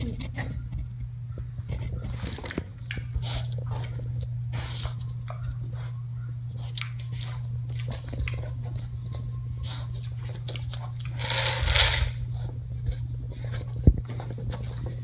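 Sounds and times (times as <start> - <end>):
pig chewing and crunching food: 0.0 - 15.0
steady low hum: 0.0 - 15.0.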